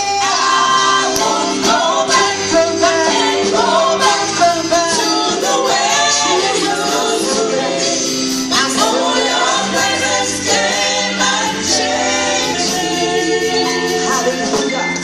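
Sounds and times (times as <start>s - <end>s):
choir singing gospel: 0.0s - 15.0s
instrumental accompaniment: 0.0s - 15.0s.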